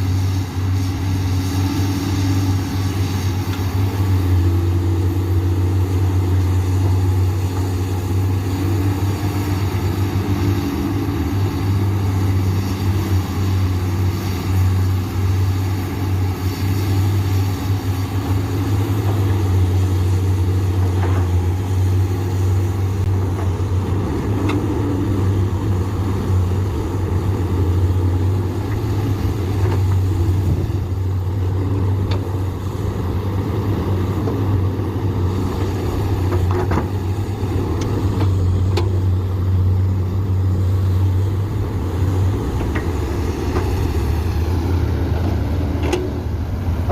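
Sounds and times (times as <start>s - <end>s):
excavator diesel engine droning: 0.0s - 46.9s.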